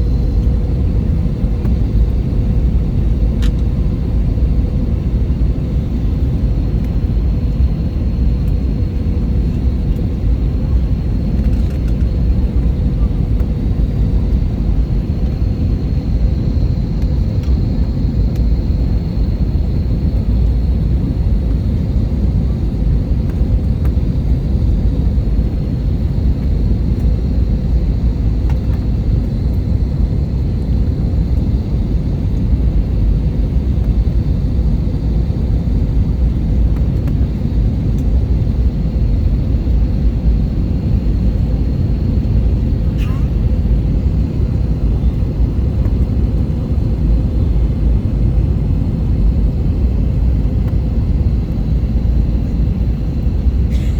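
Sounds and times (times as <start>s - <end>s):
airliner engine and airflow rumble: 0.0s - 53.9s.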